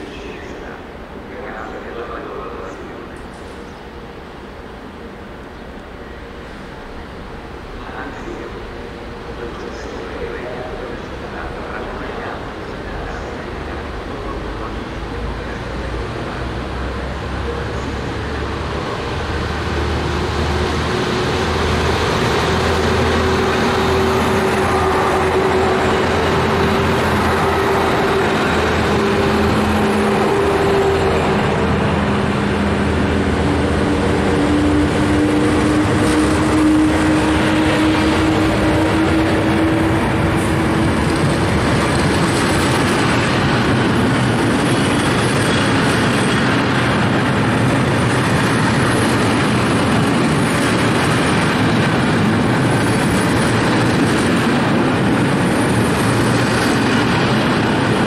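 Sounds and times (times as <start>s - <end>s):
freight train rumbling past: 0.0s - 58.0s
steady locomotive tones: 0.0s - 58.0s.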